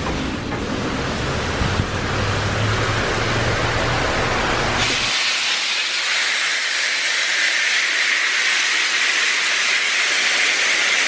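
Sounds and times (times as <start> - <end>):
water jets hissing: 1.0 - 11.0.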